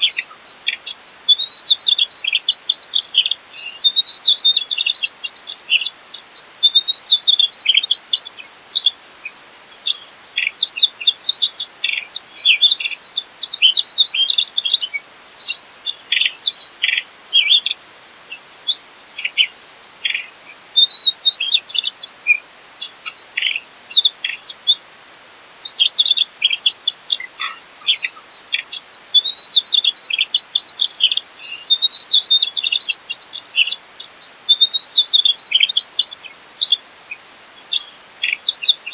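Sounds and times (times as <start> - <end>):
bird singing fast chirps: 0.0 - 38.9.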